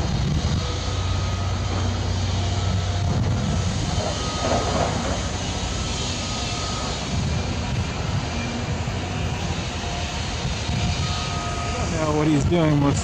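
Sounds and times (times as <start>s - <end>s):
construction machinery engine drone: 0.0s - 13.0s
steady pitched hum: 0.0s - 13.0s.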